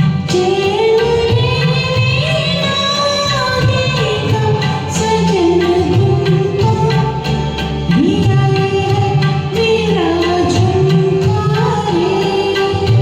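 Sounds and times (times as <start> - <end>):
tabla rhythm: 0.0 - 13.0.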